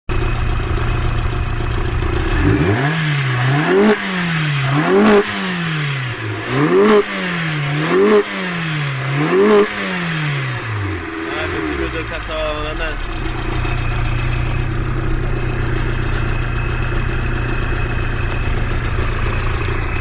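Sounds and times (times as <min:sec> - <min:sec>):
vehicle engine idling and revving: 0:00.1 - 0:20.0.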